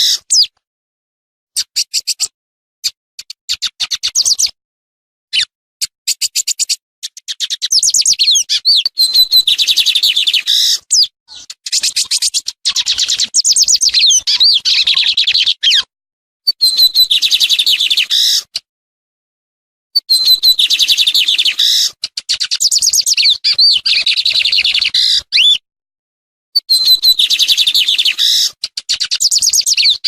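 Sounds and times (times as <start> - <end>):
small bird singing: 0.0 - 0.6, 1.6 - 4.6, 5.3 - 15.9, 16.5 - 18.6, 20.0 - 25.6, 26.6 - 30.0.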